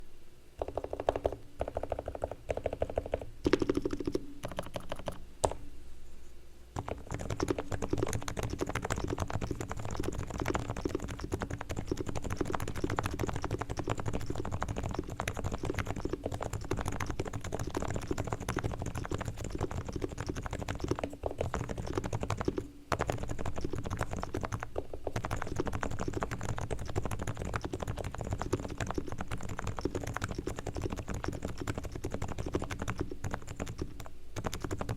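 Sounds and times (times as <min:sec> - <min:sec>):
typing on a keyboard: 0:00.6 - 0:05.6, 0:06.8 - 0:34.9.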